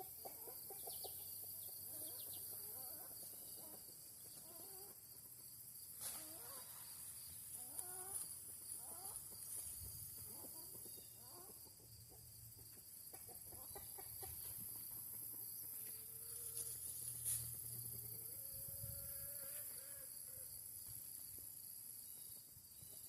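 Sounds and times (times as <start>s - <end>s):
chickens clucking: 0.0s - 20.5s
insects droning: 0.0s - 23.0s.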